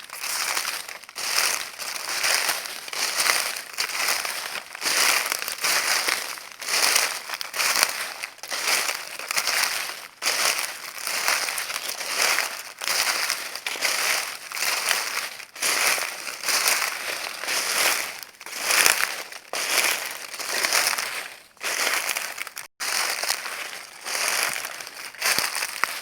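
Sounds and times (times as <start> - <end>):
footsteps crunching dry leaves: 0.0 - 26.0.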